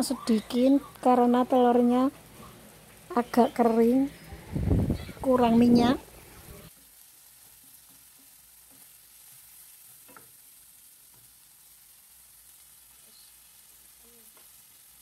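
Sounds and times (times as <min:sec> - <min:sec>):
vegetables and egg sizzling in a wok: 0:00.0 - 0:15.0.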